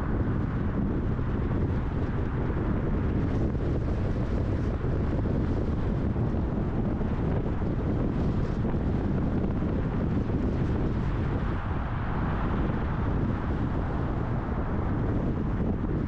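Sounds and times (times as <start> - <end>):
car road noise rumble: 0.0 - 16.0
wind buffeting microphone: 0.0 - 16.0.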